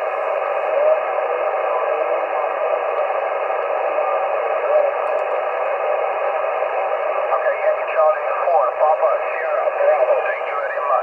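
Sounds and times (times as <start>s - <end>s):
radio static: 0.0s - 11.0s
faint voice on radio: 0.2s - 6.2s, 7.3s - 11.0s.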